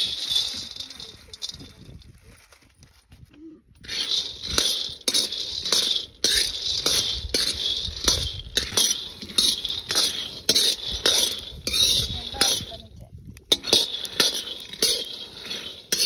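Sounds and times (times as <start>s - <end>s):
peanuts scraping in iron pan: 0.0s - 2.6s, 3.8s - 16.0s.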